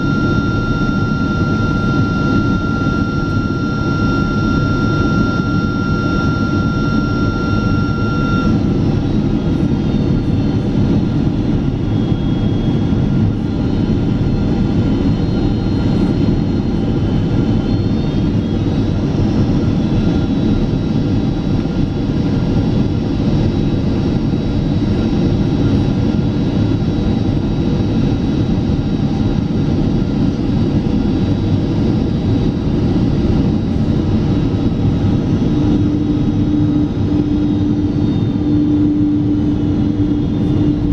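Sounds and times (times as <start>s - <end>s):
high whine: 0.0s - 40.9s
jet engine roar in cabin: 0.0s - 40.9s.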